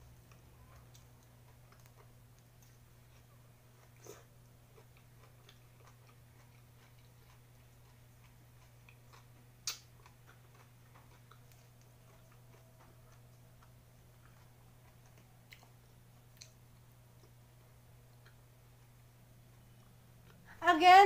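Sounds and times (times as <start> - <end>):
steady low hum: 0.0 - 21.0
chewing and mouth clicks: 0.2 - 20.5.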